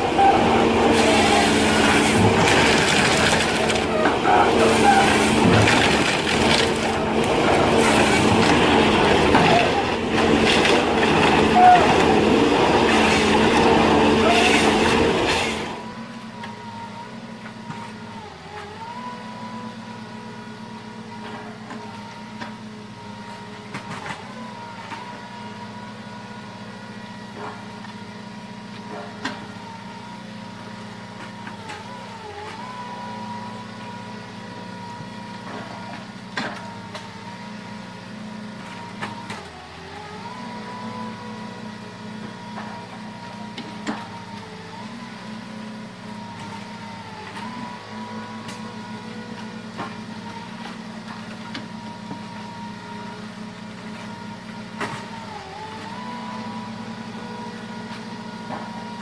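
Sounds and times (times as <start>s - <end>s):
harvester saw cutting trunk: 0.0s - 20.4s, 21.1s - 59.0s
diesel engine running: 0.0s - 59.0s.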